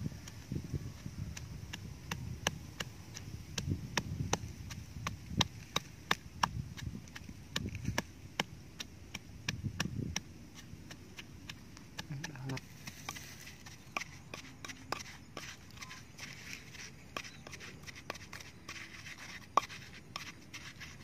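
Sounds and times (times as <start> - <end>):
pestle knocking in mortar: 1.0 - 21.0.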